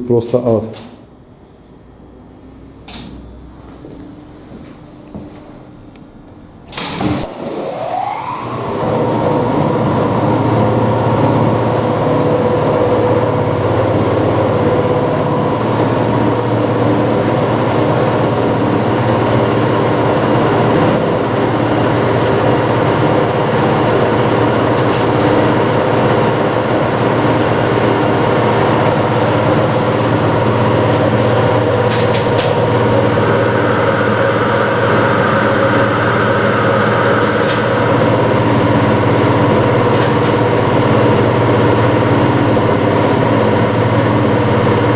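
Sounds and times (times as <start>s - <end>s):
elevator motor whining: 6.7s - 44.9s.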